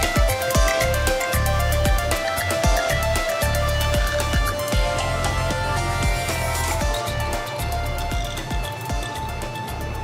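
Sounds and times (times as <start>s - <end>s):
electronic synth music with beat: 0.0s - 10.0s.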